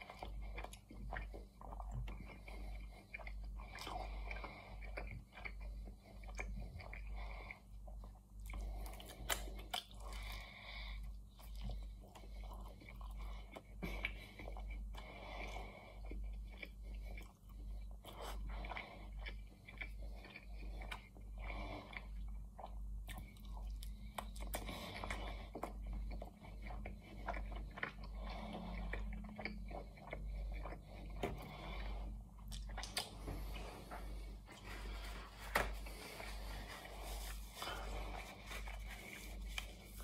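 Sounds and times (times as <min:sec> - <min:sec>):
crunchy chewing: 0:00.0 - 0:10.5, 0:11.3 - 0:40.0.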